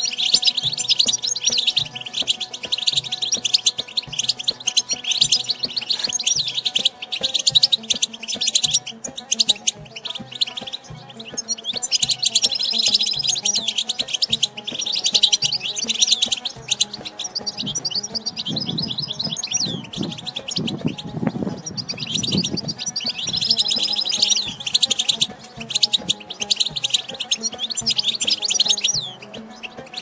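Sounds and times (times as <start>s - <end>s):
goldfinch twittering: 0.0s - 30.0s.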